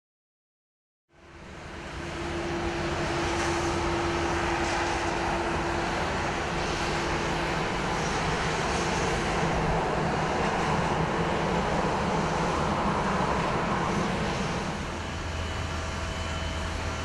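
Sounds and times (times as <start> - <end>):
jet engine rushing: 1.3 - 17.0.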